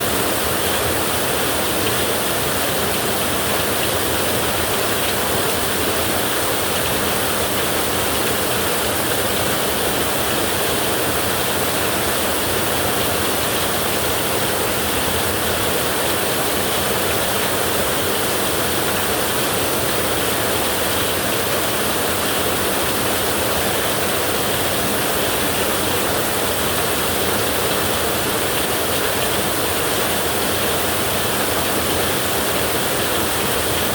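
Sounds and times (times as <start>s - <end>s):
heavy rain on a tin roof: 0.0s - 33.9s.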